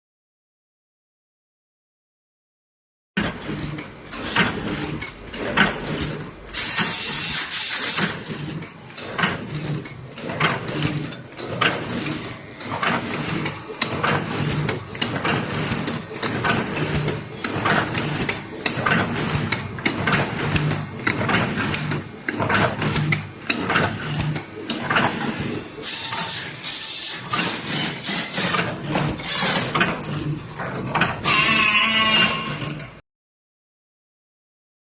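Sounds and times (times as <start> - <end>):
pulsing motor hum: 3.2 - 32.8
packaging machine clacking: 3.2 - 33.0.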